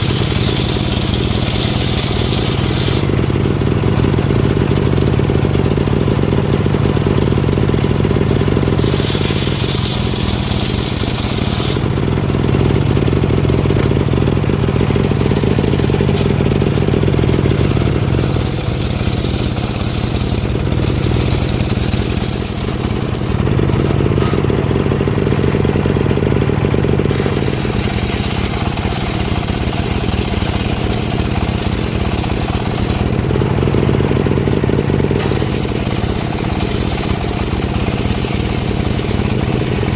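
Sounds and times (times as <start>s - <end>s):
engine-powered saw cutting log: 0.0s - 39.9s.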